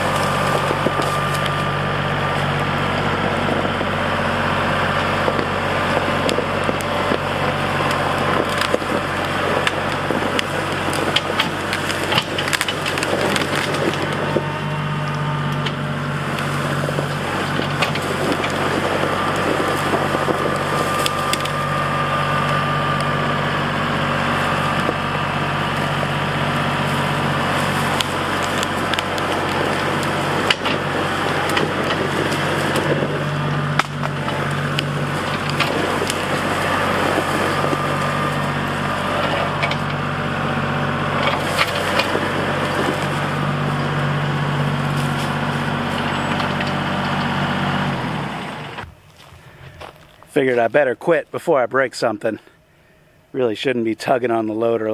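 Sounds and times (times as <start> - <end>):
branches cracking and snapping: 0.0 - 50.7
tractor engine running under load: 0.0 - 54.9.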